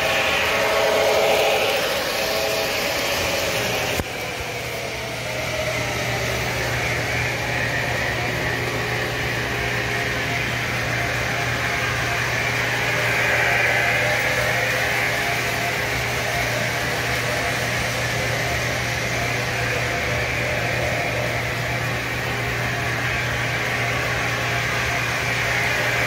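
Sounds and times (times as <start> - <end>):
model train wheels whirring: 0.0 - 26.0.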